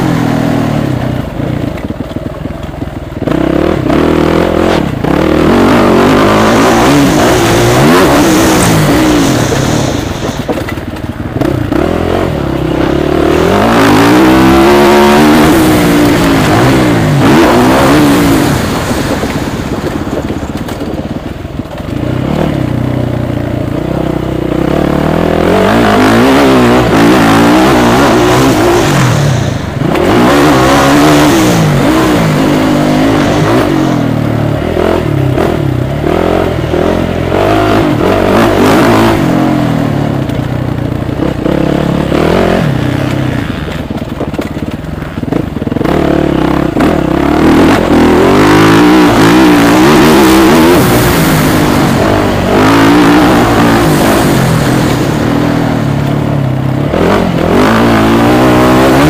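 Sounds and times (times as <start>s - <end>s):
motocross bike engine revving: 0.0s - 2.1s, 3.1s - 59.0s.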